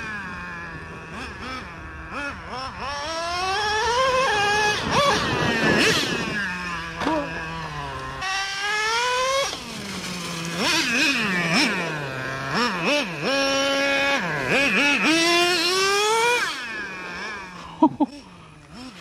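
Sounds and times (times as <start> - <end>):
rc truck nitro engine revving: 0.0 - 19.0.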